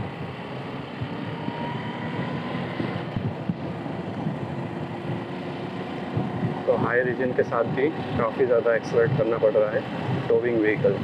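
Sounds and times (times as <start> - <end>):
wind and road noise rushing: 0.0 - 11.0.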